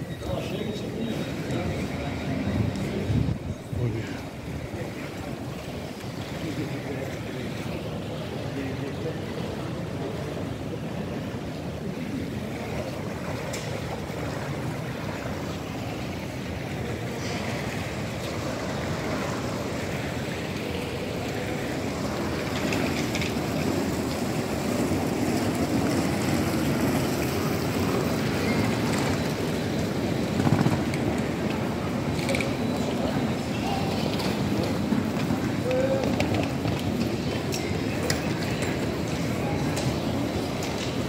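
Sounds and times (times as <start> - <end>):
metro station rushing hum: 0.0 - 41.0.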